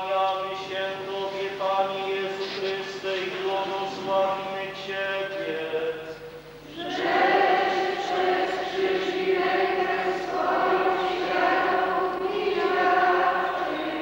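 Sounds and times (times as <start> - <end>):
congregation singing a hymn: 0.0 - 14.0.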